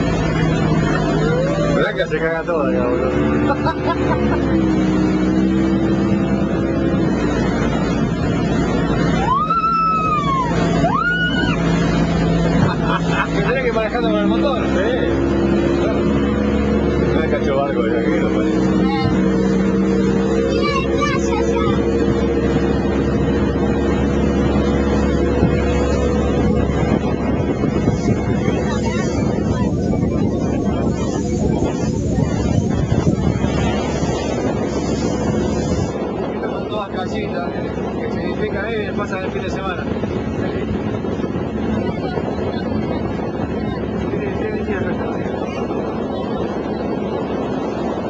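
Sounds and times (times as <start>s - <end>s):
motorboat engine hum: 0.0s - 48.0s
water noise: 0.0s - 48.0s
wind: 0.0s - 48.0s.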